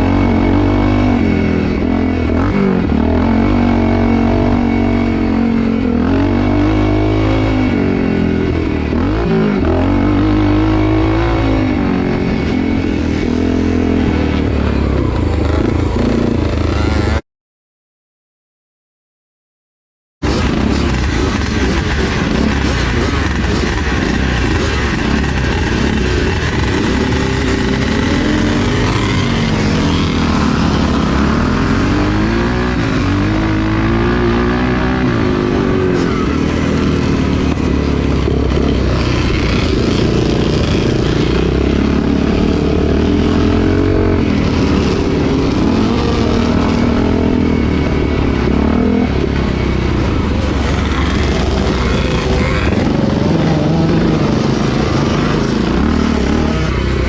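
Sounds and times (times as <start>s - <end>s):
motorcycle engine revving: 0.0s - 17.2s, 20.2s - 57.0s.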